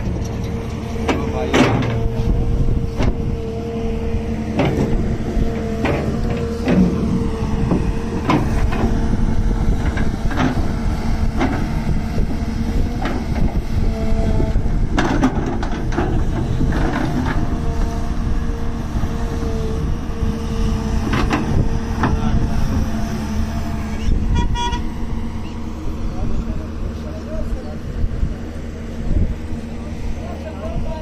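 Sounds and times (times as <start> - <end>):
hydraulic whine: 0.0 - 30.4
diesel engine running: 0.0 - 31.0.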